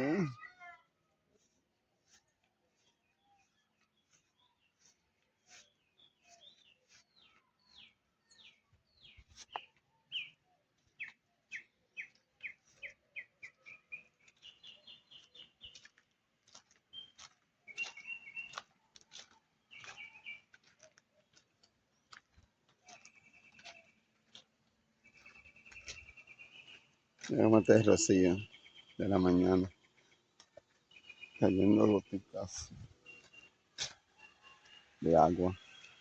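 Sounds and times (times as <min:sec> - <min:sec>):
birds singing and chirping: 0:02.1 - 0:15.9, 0:16.9 - 0:21.4, 0:22.0 - 0:24.4, 0:25.0 - 0:36.0.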